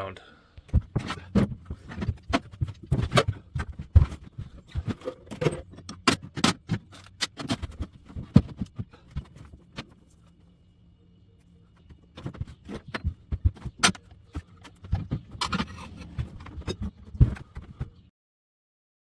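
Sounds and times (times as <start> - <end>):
tools and parts clunking: 0.6 - 10.4, 11.4 - 18.1.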